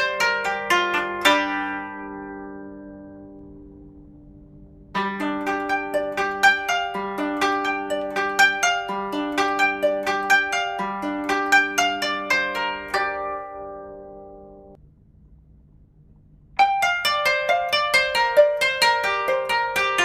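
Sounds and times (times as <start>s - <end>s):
plucked harp-like melody: 0.0s - 14.8s, 16.6s - 20.0s.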